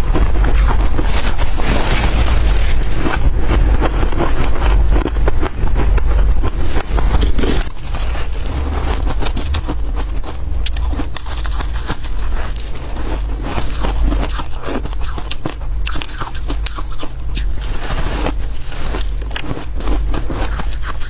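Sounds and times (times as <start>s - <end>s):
low rumble: 0.0s - 20.8s
freezer frost being scraped: 0.0s - 21.0s.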